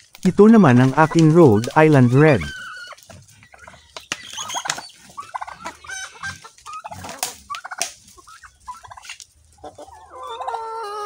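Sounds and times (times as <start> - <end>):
chickens clucking: 0.3 - 11.0.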